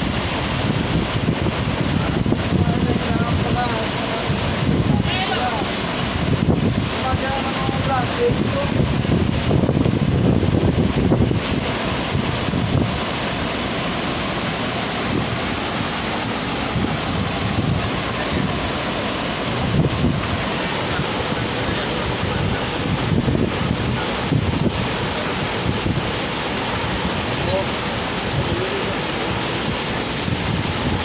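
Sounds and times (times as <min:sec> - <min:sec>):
rushing water: 0:00.0 - 0:31.0
wind buffeting microphone: 0:00.0 - 0:31.0.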